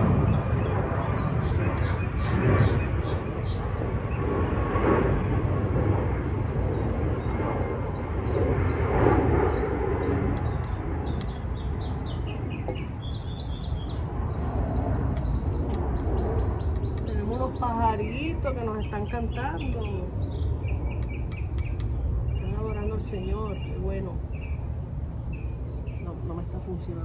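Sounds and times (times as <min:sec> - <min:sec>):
low background rumble: 0:00.0 - 0:27.0
small birds chirping: 0:00.1 - 0:04.4, 0:06.4 - 0:27.0.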